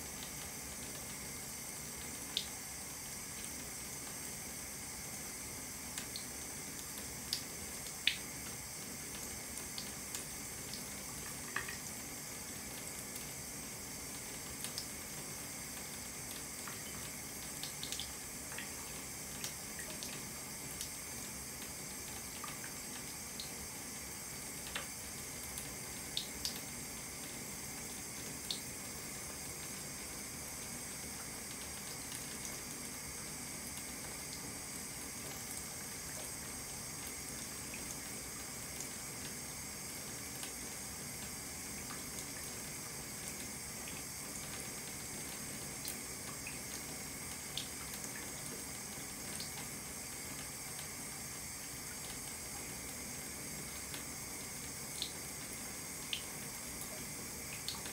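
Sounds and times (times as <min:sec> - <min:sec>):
water running into bathtub: 0:00.0 - 0:57.9.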